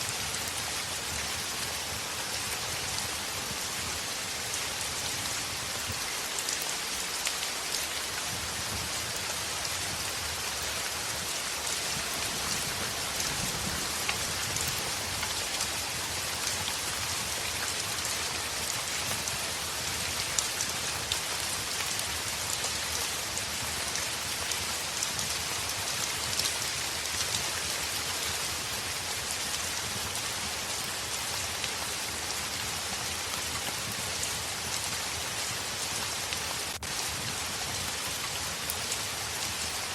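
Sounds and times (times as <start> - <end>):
heavy rain on a window: 0.0 - 39.9
rain drops ticking: 0.0 - 39.9.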